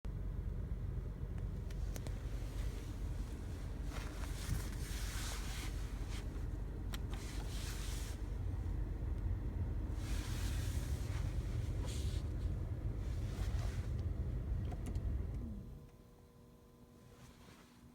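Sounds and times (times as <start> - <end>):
car engine rumbling: 0.1 - 16.1.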